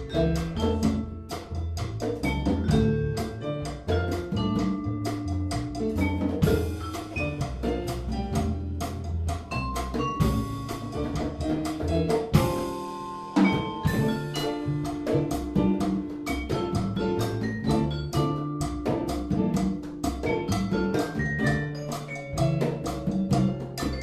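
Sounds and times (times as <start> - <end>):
latin jazz band playing: 0.0 - 24.0.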